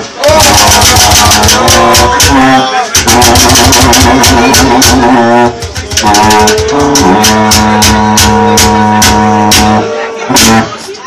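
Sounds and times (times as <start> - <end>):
band droning held notes: 0.6 - 10.8.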